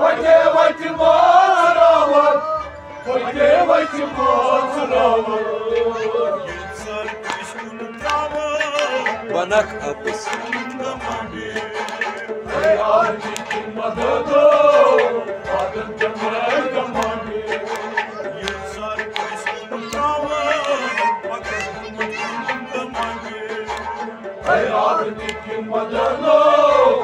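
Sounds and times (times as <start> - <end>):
man singing: 0.0 - 27.0
low drum beat: 3.2 - 27.0.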